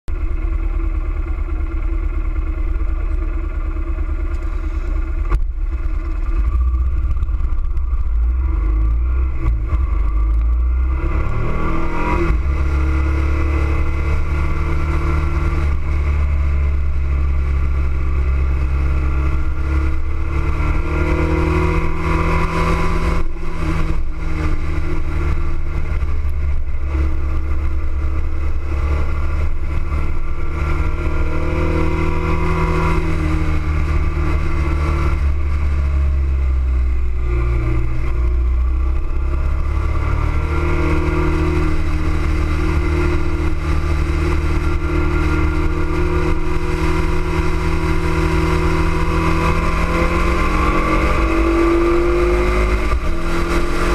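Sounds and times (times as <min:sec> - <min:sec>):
motorcycle engine accelerating: 0:00.1 - 0:53.9.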